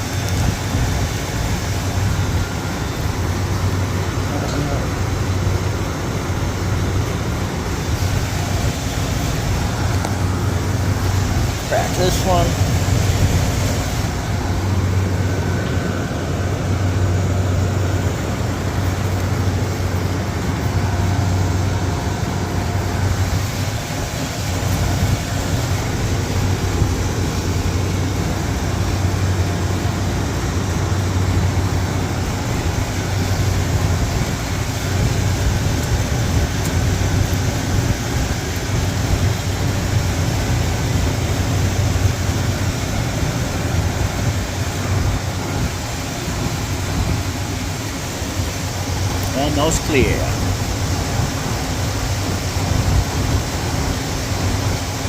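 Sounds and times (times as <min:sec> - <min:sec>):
compressor humming: 0:00.0 - 0:55.0
fan and airflow noise: 0:00.0 - 0:55.0
refrigerant hissing: 0:00.0 - 0:55.0.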